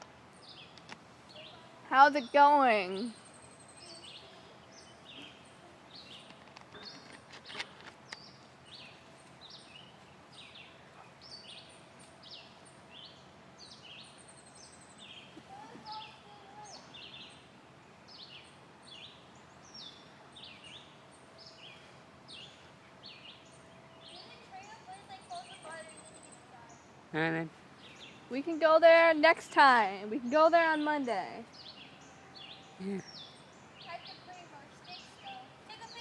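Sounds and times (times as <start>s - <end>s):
birds chirping: 0.0s - 36.0s
outdoor background noise: 0.0s - 36.0s.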